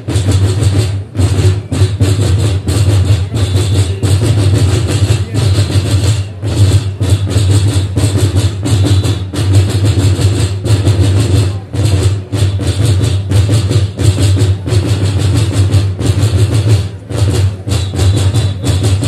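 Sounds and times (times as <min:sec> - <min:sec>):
big drums beating fast: 0:00.0 - 0:19.0.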